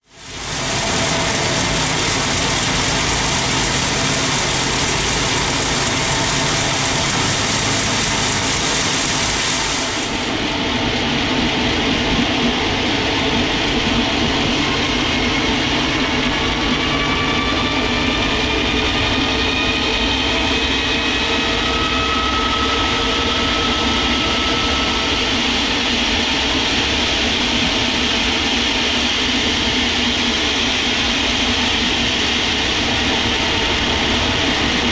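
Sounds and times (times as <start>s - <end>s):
sawmill machinery running: 0.1s - 34.9s.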